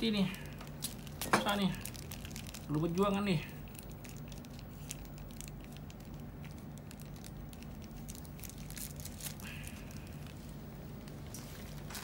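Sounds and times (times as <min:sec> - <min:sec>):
plastic bag crinkling: 0:00.0 - 0:12.0
steady low hum: 0:00.0 - 0:12.0.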